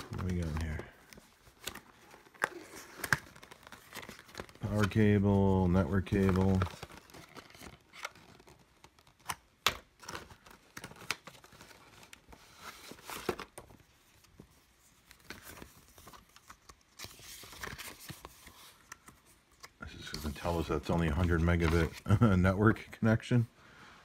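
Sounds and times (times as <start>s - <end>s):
paper rustling: 0.0s - 9.4s, 10.0s - 22.4s.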